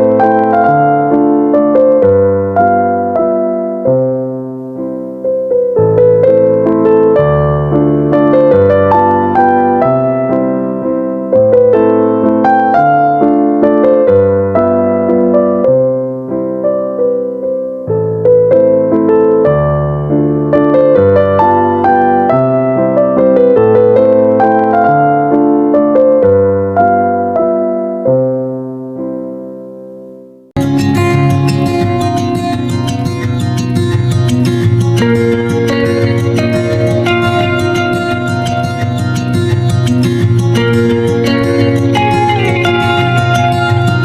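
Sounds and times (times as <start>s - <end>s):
gentle piano melody: 0.0s - 44.0s.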